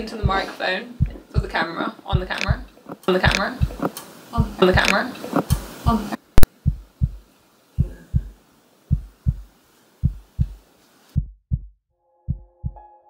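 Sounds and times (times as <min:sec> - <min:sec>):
heartbeat thumps: 0:00.0 - 0:10.6, 0:11.2 - 0:12.8
background hiss: 0:00.0 - 0:11.2.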